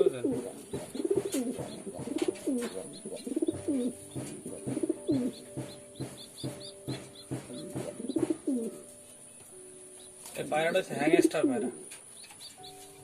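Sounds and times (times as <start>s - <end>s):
pigeons cooing: 0.0s - 8.9s, 10.6s - 12.5s.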